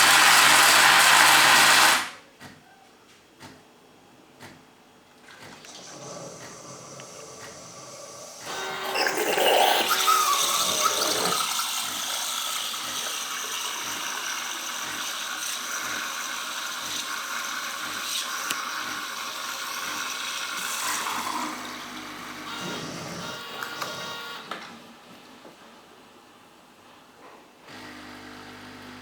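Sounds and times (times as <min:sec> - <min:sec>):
coffee machine whirring and hissing: 0:00.0 - 0:02.2, 0:05.7 - 0:26.2, 0:27.2 - 0:29.0.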